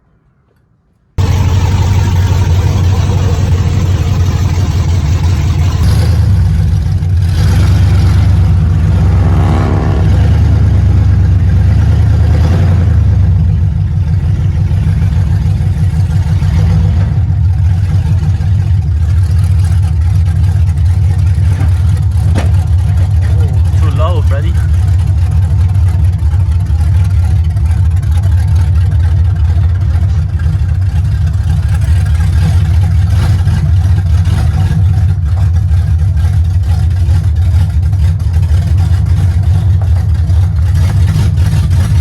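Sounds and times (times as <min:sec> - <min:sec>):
truck engine rumbling: 0:00.0 - 0:42.0.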